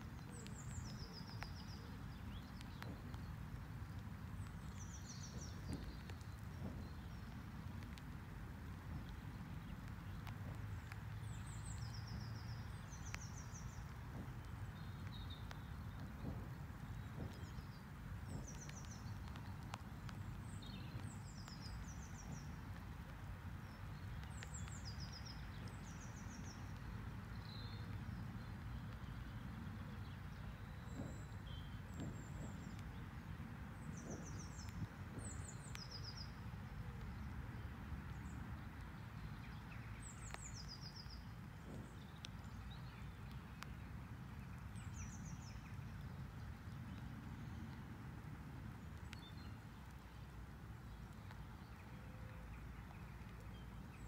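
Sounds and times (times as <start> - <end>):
low outdoor rumble: 0.0 - 54.0
small birds chirping: 0.0 - 54.0.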